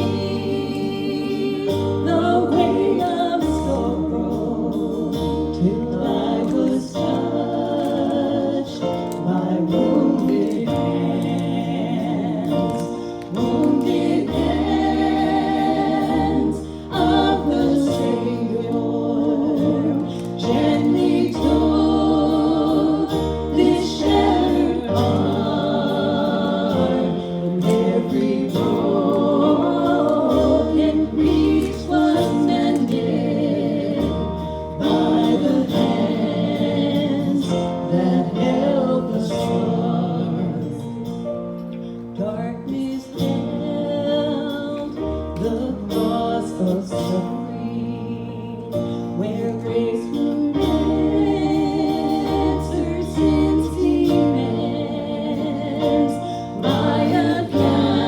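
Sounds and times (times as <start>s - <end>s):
instrumental accompaniment: 0.0s - 58.0s
voices singing gospel song: 0.0s - 58.0s.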